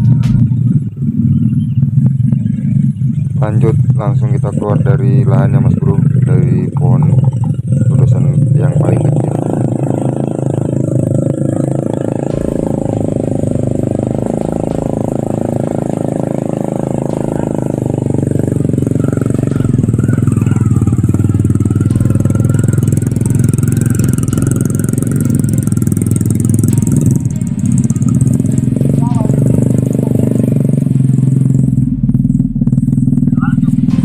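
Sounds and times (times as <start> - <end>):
motorcycle engines at low speed: 0.0 - 34.0.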